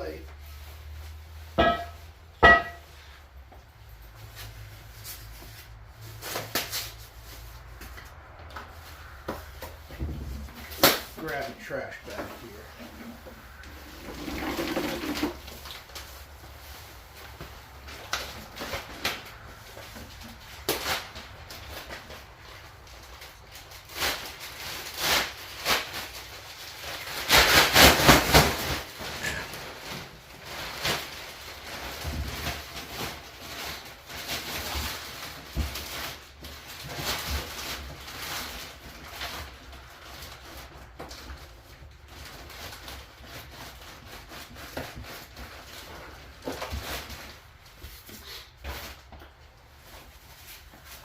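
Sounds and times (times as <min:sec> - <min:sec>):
packing material rustling: 0:03.9 - 0:51.0.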